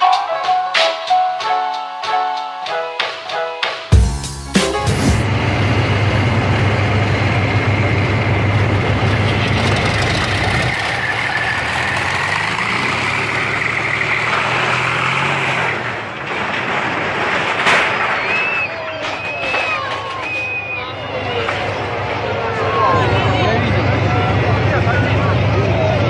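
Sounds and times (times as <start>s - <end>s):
tank diesel engine droning: 5.0s - 26.0s.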